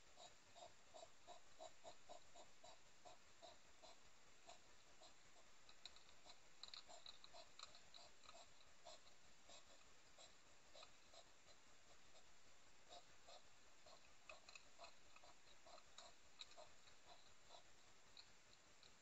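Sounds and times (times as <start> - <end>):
hedgehog chewing dry food: 0.0 - 19.0.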